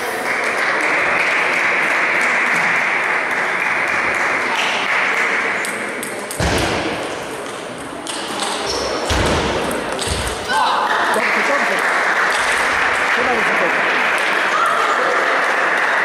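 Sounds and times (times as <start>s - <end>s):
hall background noise: 0.0s - 16.0s.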